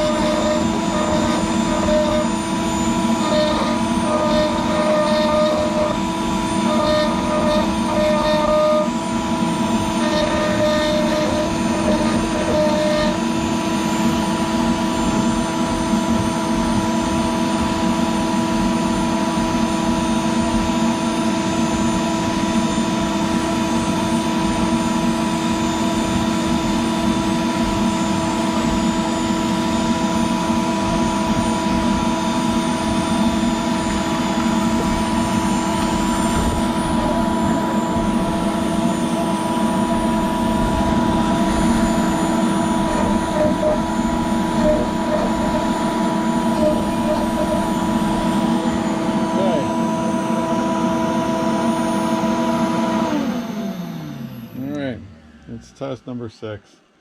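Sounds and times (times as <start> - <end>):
router bit carving plastic: 0.0 - 17.2, 21.4 - 51.7
router spindle whine: 0.0 - 56.2.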